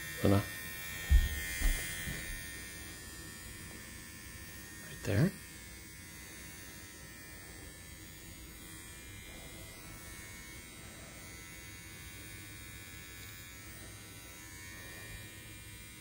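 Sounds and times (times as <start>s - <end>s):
pet trimmer buzzing: 0.0s - 16.0s.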